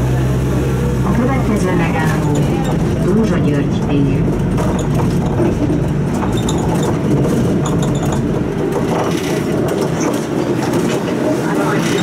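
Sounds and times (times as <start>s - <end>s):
bus engine rumbling: 0.0s - 12.0s
rattles and clicks from bus body: 1.5s - 12.0s.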